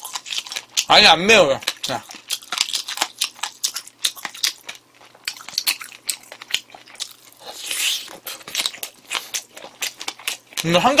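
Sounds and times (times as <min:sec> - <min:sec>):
food crunching: 0:00.0 - 0:11.0.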